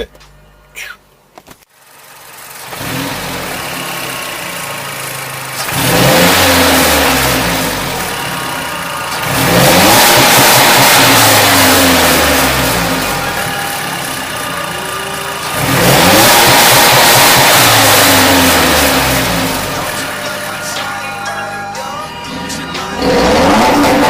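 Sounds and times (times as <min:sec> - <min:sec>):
car engine revving: 0:01.8 - 0:24.0.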